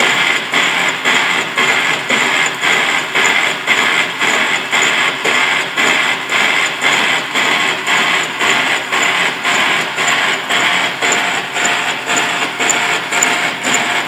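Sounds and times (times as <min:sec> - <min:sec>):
drill boring through steel: 0:00.0 - 0:14.0.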